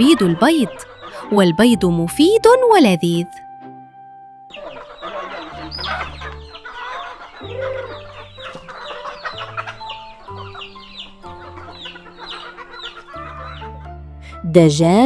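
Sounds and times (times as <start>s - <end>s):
chickens clucking: 0.0s - 2.8s, 4.5s - 13.9s
slow held music notes: 0.0s - 15.0s.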